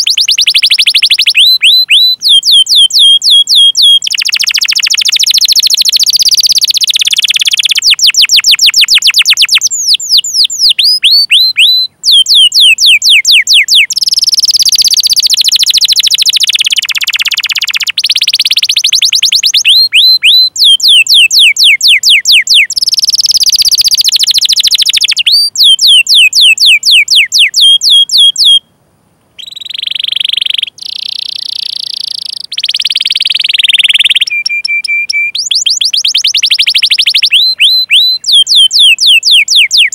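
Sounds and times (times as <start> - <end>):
canary singing trills and chirps: 0.0 - 28.7, 29.4 - 39.9.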